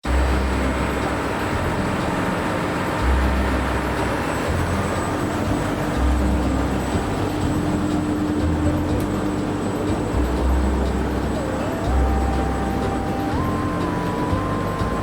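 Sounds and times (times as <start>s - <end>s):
constant higher drone: 0.0s - 15.0s
train rumbling: 0.0s - 15.0s.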